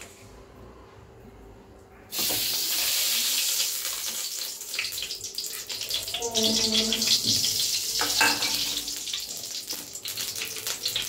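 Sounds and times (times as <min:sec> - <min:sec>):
ghee sizzling in a pan: 0:02.1 - 0:11.0.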